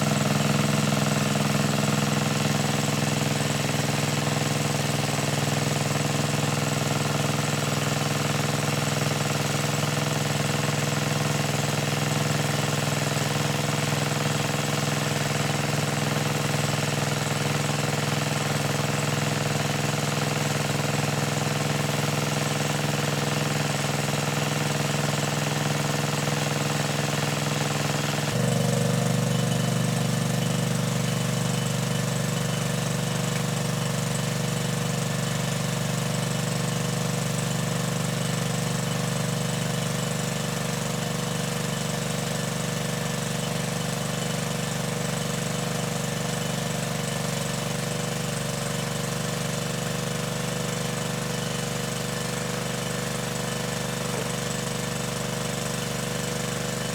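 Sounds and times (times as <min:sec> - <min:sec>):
small engine running: 0:00.0 - 0:56.9.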